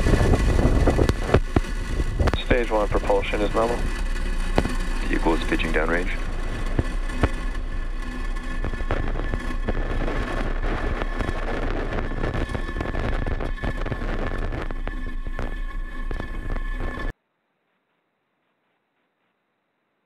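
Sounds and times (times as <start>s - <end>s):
rocket engines crackling rumble: 0.0s - 17.1s.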